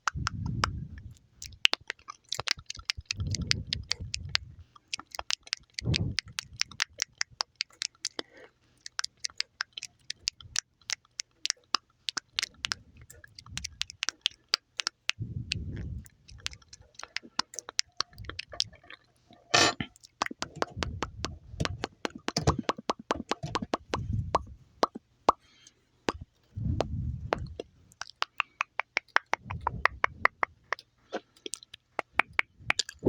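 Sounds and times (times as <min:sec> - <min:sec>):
wet mouth clicks and smacks: 0:00.0 - 0:19.1, 0:19.9 - 0:33.0.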